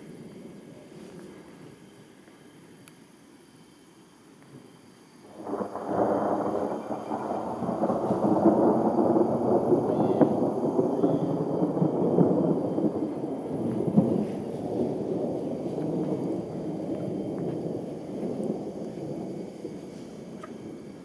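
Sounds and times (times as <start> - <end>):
thunder rolling with crackling: 0.0 - 1.8, 5.3 - 21.0.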